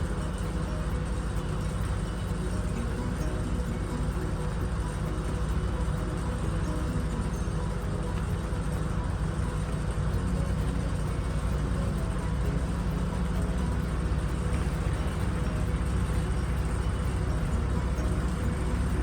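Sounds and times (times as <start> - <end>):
engine droning steadily: 0.0 - 19.0.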